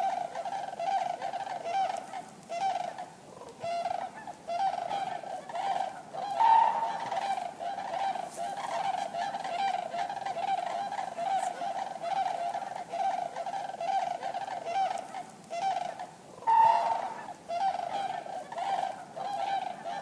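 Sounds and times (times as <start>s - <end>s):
cranes honking calls: 0.0s - 20.0s.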